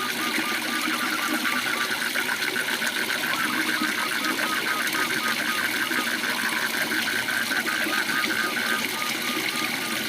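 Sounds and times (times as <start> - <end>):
frog calling: 0.4 - 9.5.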